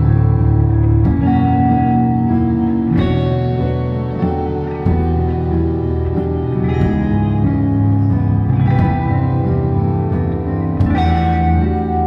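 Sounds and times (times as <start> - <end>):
electric guitar sustained notes: 0.0 - 12.0.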